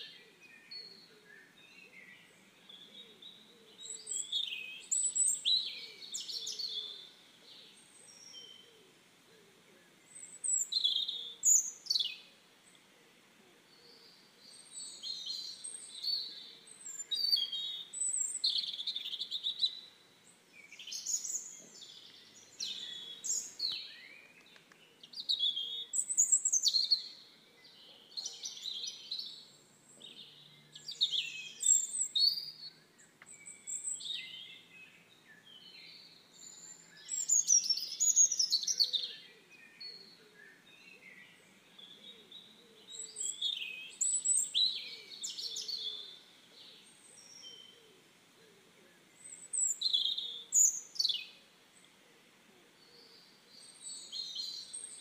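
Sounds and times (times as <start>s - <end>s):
wild birds singing and chirping: 0.0s - 55.0s.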